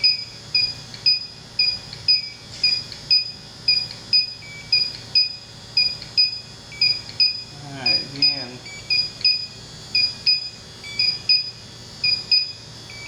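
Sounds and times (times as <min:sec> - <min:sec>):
leak detector beeping: 0:00.0 - 0:13.0.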